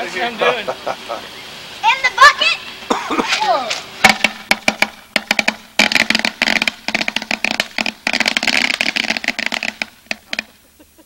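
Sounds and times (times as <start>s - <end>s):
firecrackers popping: 0.8s - 11.0s.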